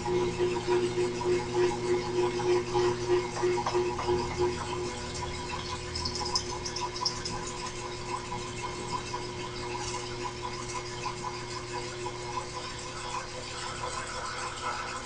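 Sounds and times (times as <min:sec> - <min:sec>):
milling machine spindle humming: 0:00.0 - 0:15.0.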